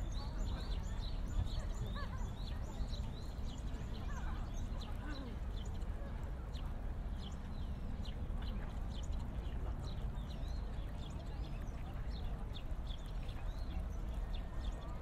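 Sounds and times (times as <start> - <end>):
faint distant voices: 0.0 - 15.0
small birds chirping: 0.0 - 15.0.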